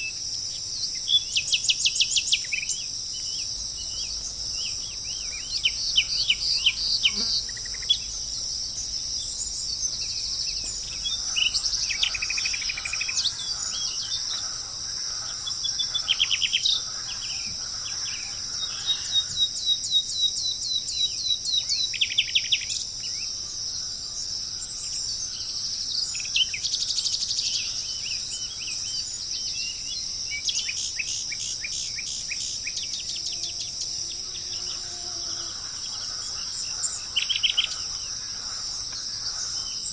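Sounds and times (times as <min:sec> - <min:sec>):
insects chorus: 0:00.0 - 0:39.9
songbirds singing: 0:00.0 - 0:39.9.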